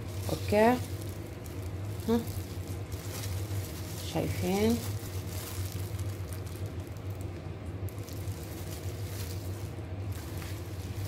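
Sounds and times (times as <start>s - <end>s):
steady low hum: 0.0s - 11.0s
wet towel squishing: 0.0s - 11.0s.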